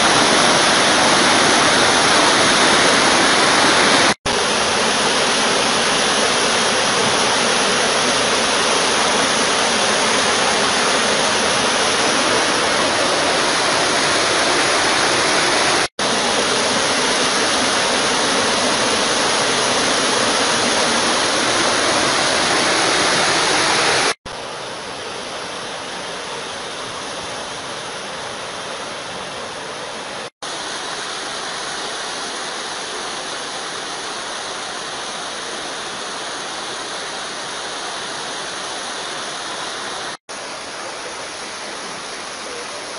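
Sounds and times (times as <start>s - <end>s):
floodwater rushing: 0.0s - 42.9s.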